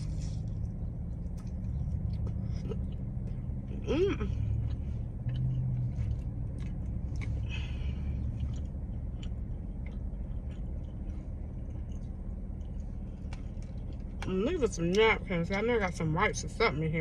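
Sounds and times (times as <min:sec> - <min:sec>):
person chewing food: 0:00.0 - 0:14.3
low car rumble: 0:00.0 - 0:17.0.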